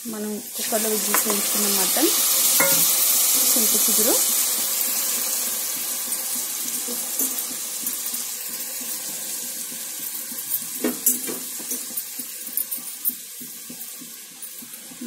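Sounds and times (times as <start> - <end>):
food frying in hot oil: 0.0 - 15.0.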